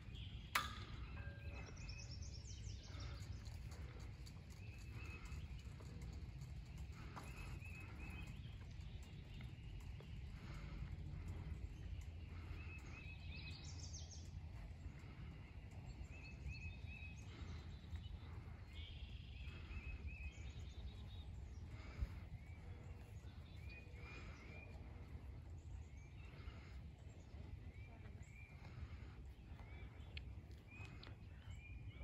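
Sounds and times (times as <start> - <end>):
songbird chirping: 0.0 - 32.0.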